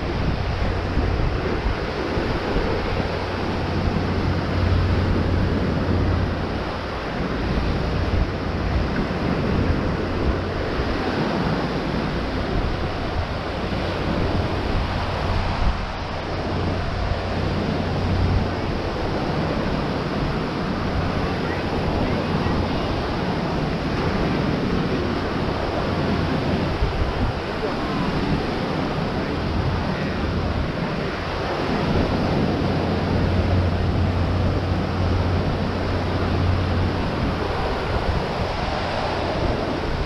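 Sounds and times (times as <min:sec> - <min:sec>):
ocean surf washing on beach: 0:00.0 - 0:40.0
wind buffeting microphone: 0:00.0 - 0:40.0.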